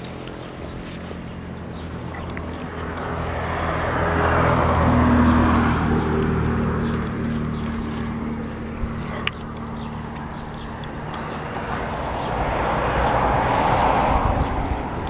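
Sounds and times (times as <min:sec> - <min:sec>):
vehicle passing: 0:00.0 - 0:15.0.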